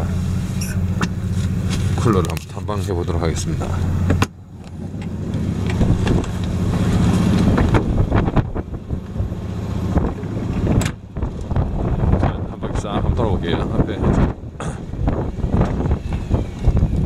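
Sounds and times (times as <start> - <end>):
boat engine humming: 0.0 - 17.0
wind buffeting microphone: 0.0 - 17.0.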